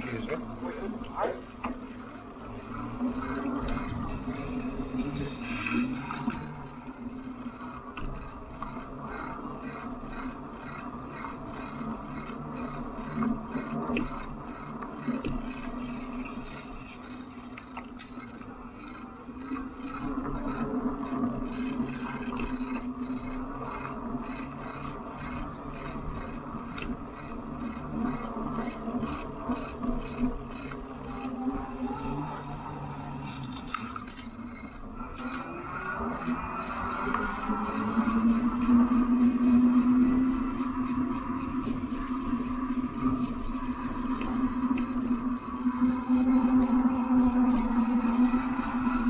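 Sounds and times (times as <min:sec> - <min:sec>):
electric bike motor hum: 0:00.0 - 0:49.0.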